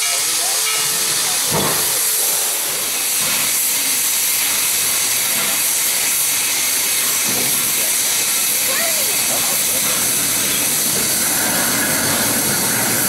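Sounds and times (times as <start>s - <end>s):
steam locomotive venting steam: 0.0s - 13.0s.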